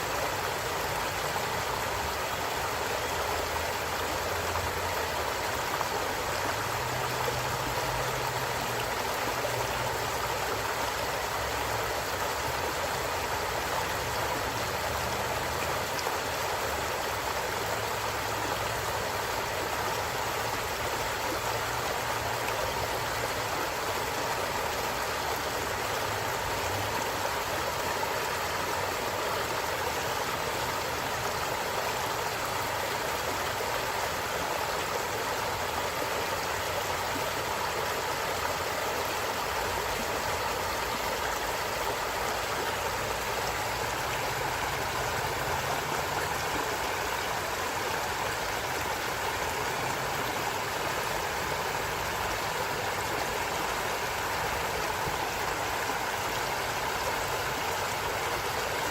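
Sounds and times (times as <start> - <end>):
stream rushing water: 0.0 - 58.9.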